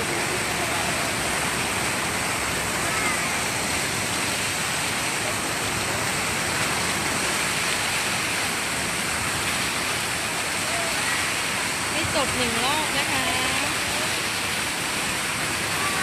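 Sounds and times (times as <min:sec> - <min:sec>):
fountain water rushing and splashing: 0:00.0 - 0:16.0.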